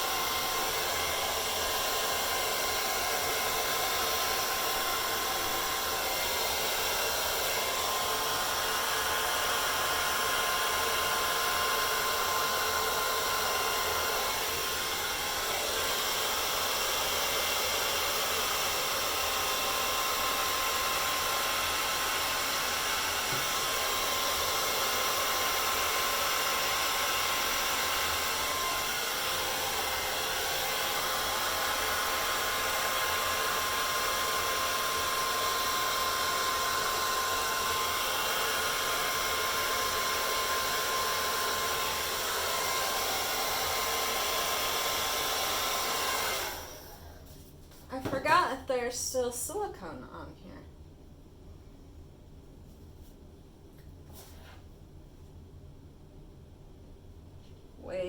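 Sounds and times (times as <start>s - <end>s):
hair dryer running: 0.0s - 47.3s, 57.8s - 58.0s.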